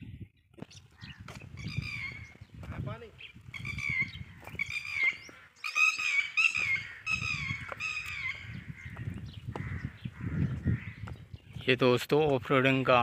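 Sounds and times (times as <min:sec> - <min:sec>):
bird calling: 0:00.6 - 0:02.5, 0:03.2 - 0:11.7.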